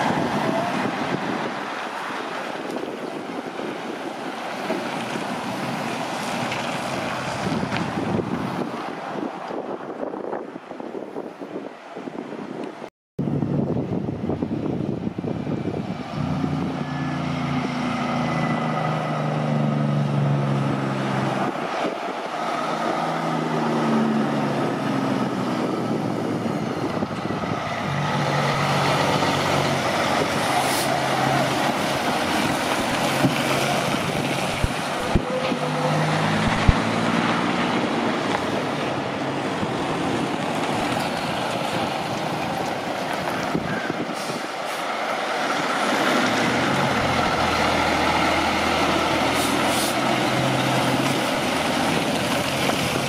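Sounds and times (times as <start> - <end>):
diesel trucks driving by: 0.0 - 53.0
tyre and road noise: 0.0 - 53.0.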